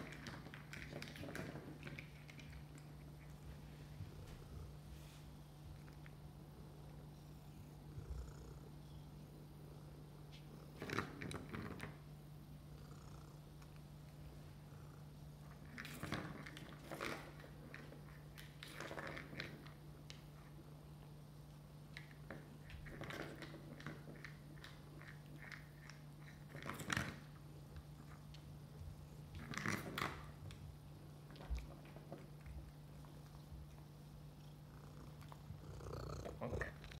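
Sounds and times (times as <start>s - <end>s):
cat purring: 0.0s - 37.0s
steady low hum: 0.0s - 37.0s.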